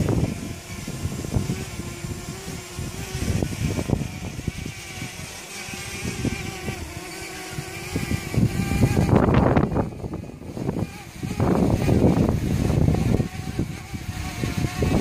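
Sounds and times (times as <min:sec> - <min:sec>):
drone propellers humming: 0:00.0 - 0:15.0
wind buffeting microphone: 0:00.0 - 0:15.0.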